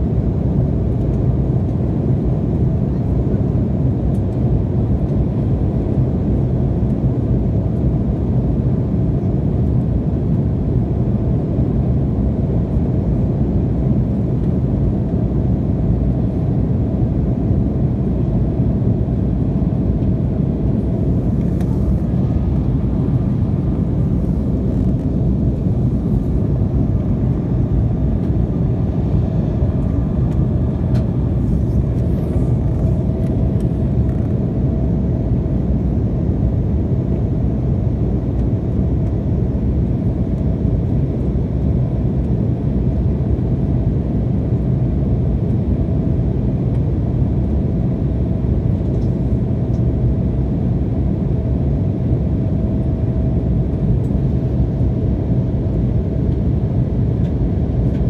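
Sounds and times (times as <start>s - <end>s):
faint steady hum: 0.0s - 58.0s
jet airliner cabin rumble: 0.0s - 58.0s.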